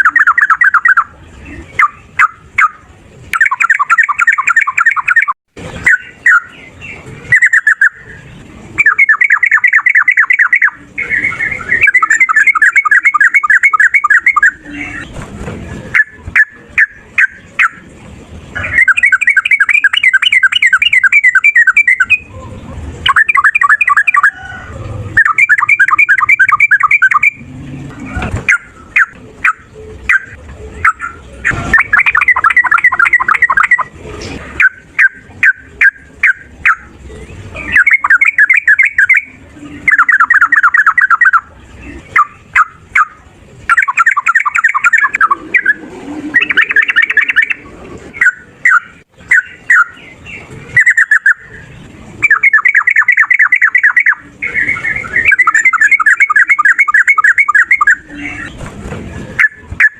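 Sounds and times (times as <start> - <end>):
bird whistles and rolling trills: 0.0 - 59.9.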